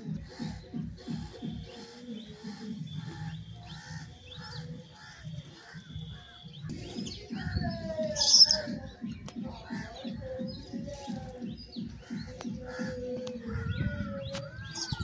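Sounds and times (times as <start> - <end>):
background music with steady beat: 0.0 - 15.0
small birds chirping: 0.0 - 15.0.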